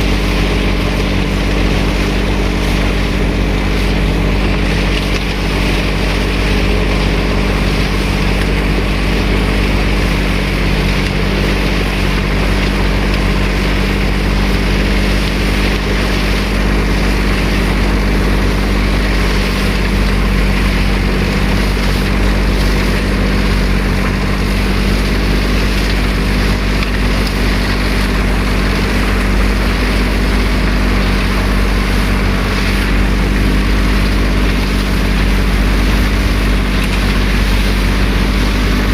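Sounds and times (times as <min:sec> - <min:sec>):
motor running steadily: 0:00.0 - 0:38.9.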